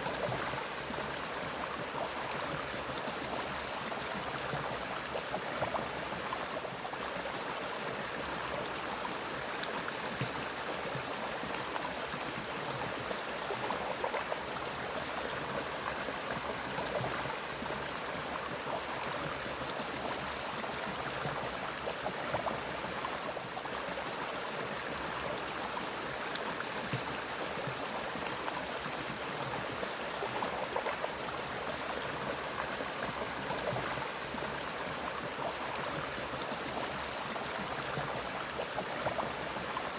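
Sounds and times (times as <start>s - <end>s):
stream rushing and splashing: 0.0s - 39.9s.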